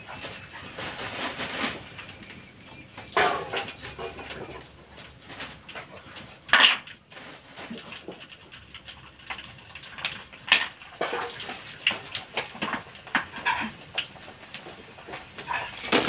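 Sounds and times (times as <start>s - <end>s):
crackers sizzling in hot oil: 0.0s - 16.0s
crackles and pops: 1.6s - 16.0s.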